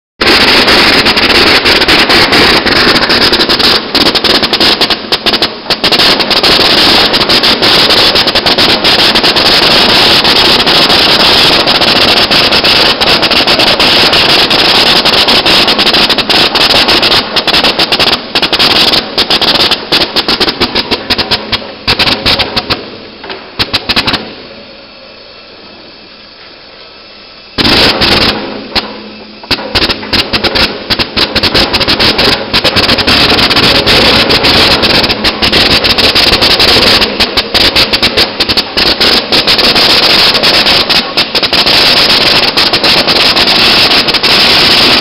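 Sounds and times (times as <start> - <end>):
sorting machine rattling crackle: 0.2 - 24.4, 27.6 - 45.0.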